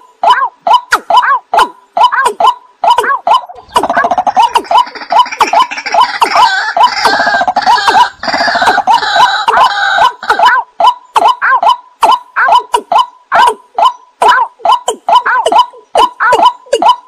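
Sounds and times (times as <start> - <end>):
chorus of harsh high bird calls: 0.0 - 17.0
loud clucking bird call: 0.0 - 17.0.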